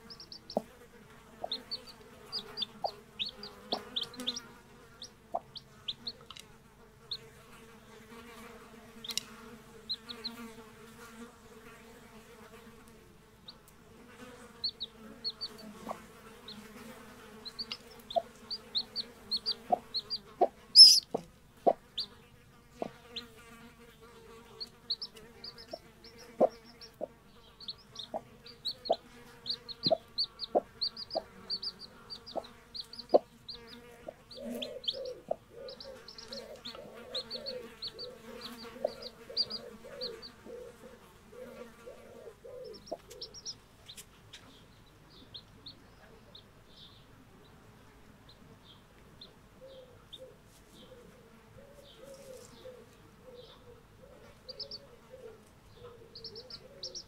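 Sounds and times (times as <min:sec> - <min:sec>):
chicks peeping: 0:00.0 - 0:06.4, 0:09.0 - 0:10.5, 0:14.5 - 0:23.4, 0:24.0 - 0:47.6, 0:48.2 - 0:57.0.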